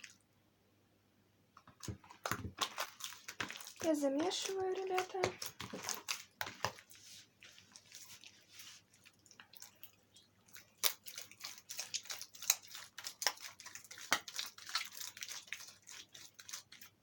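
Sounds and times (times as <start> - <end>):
slime squelching: 1.6 - 17.0.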